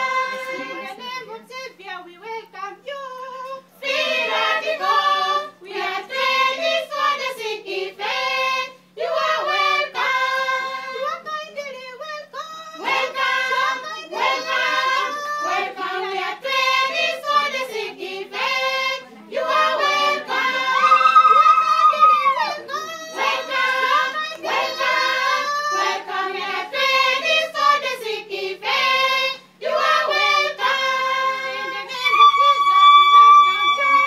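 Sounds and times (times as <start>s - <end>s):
young women singing unaccompanied: 0.0s - 32.7s.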